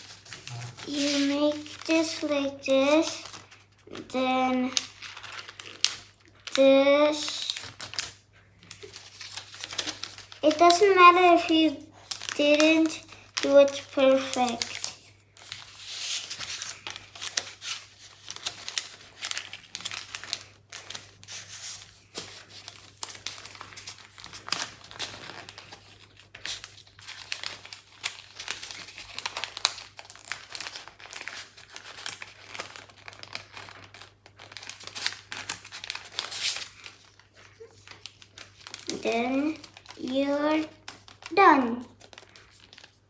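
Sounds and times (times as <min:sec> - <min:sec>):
paper being folded and creased: 0:00.0 - 0:43.0.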